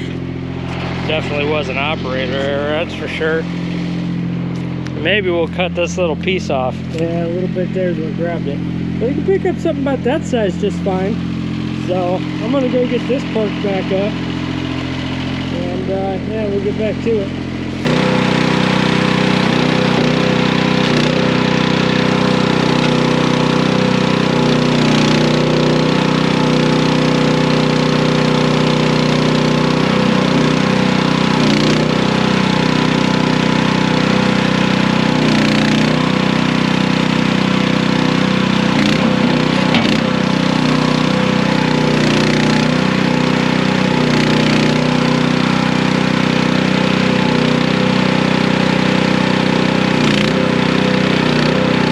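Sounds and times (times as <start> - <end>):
skid steer engine running: 0.0 - 51.9.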